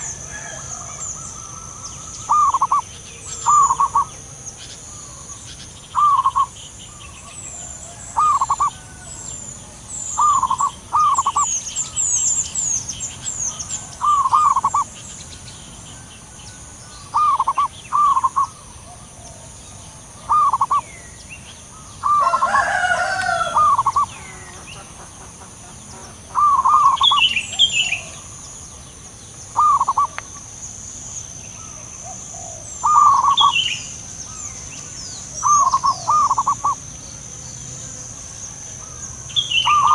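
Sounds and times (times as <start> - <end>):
doves cooing: 0.0 - 15.0, 16.0 - 21.0, 21.6 - 28.6, 29.5 - 30.5, 31.6 - 36.9, 38.6 - 39.9
small birds chirping: 0.0 - 39.9
steady high hiss: 0.0 - 39.9.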